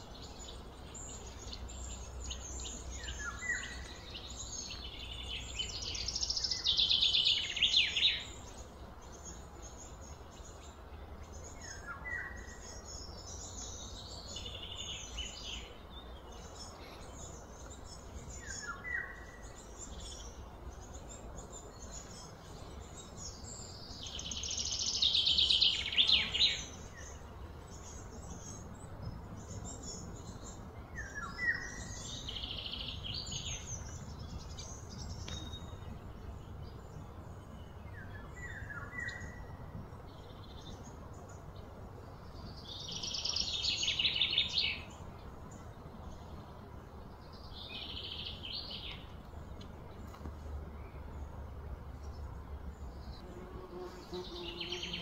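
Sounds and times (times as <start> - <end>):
birds chirping: 0.0 - 55.0
low background noise: 0.0 - 55.0.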